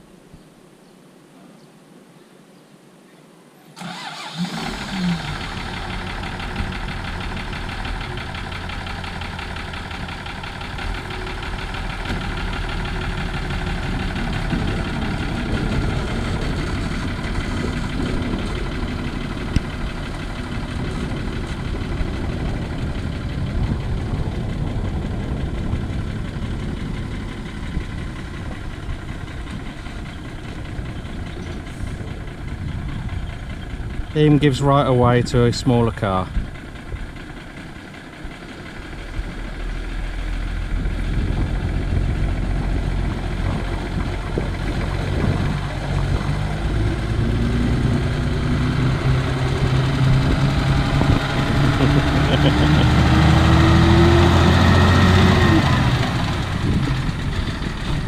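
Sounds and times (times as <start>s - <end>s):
truck engine starting and rumbling: 3.8s - 58.0s.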